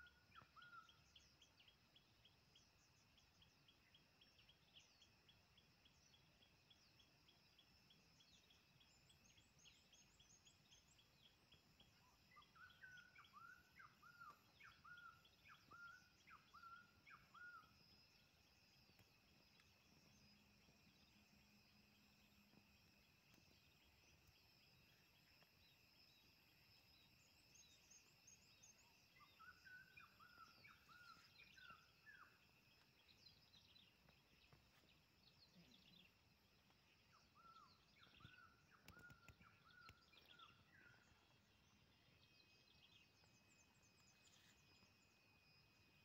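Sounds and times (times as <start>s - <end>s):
bird chirping: 0.0s - 46.0s
high insect drone: 0.1s - 38.8s, 39.4s - 46.0s.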